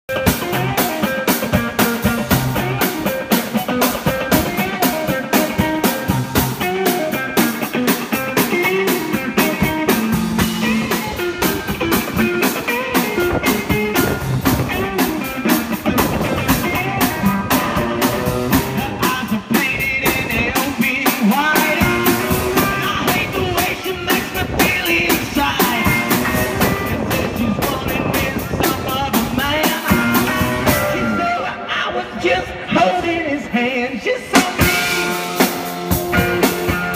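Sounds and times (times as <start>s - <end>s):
drum kit steady beat: 0.1s - 31.1s, 34.3s - 36.9s
electric guitar: 0.1s - 36.9s.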